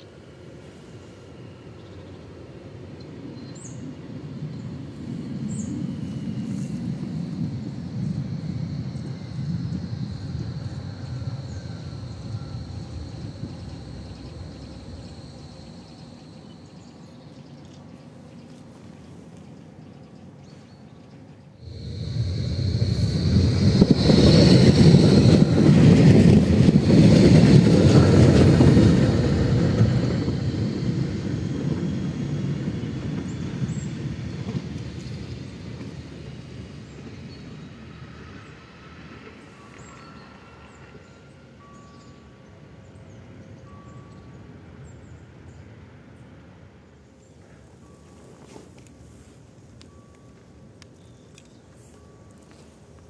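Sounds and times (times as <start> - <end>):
tram running on rails: 0.0 - 53.0.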